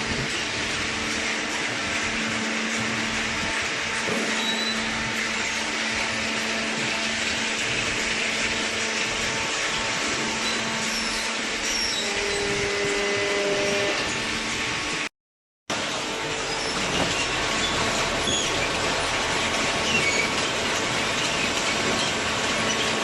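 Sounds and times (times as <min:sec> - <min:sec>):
hydraulic press motor drone: 0:00.0 - 0:15.1, 0:15.7 - 0:23.0.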